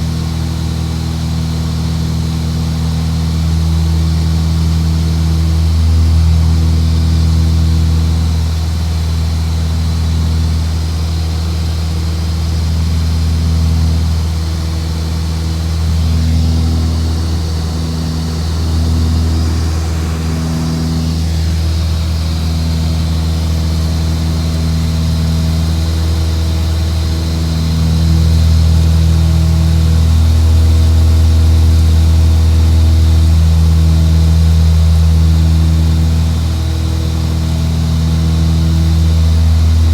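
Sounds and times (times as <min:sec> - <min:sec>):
aircraft engine drone: 0:00.0 - 0:39.9.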